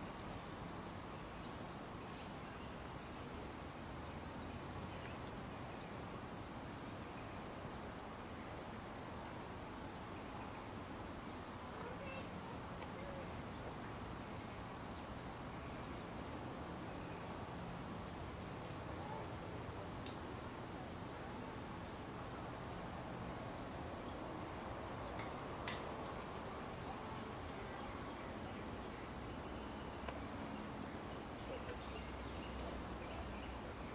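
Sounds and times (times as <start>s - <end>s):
low hiss: 0.0s - 33.9s
steady high insect hum: 0.0s - 33.9s.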